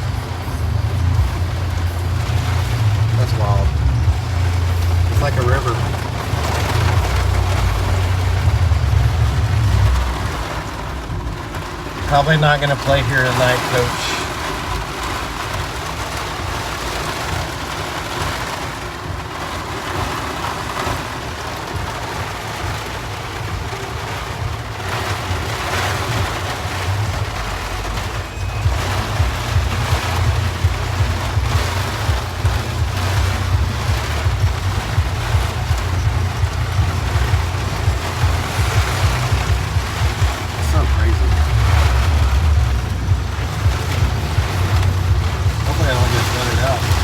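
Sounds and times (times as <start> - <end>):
low rumble: 0.0 - 17.5, 22.7 - 47.0
rain: 0.0 - 47.0
rushing floodwater: 0.0 - 47.0.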